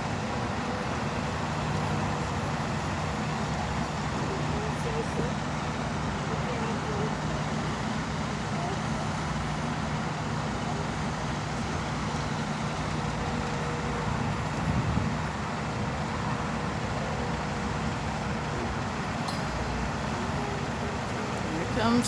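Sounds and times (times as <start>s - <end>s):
diesel construction machinery running: 0.0s - 22.0s.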